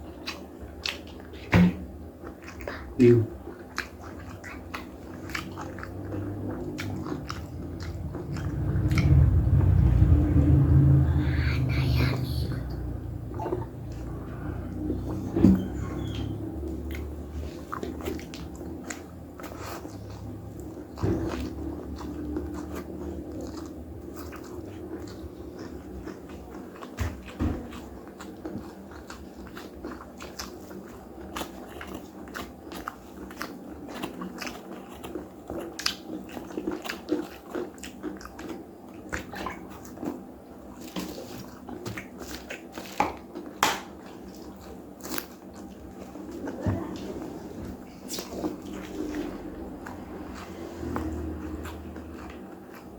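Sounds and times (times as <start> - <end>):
close chewing and biting: 0.0 - 52.9.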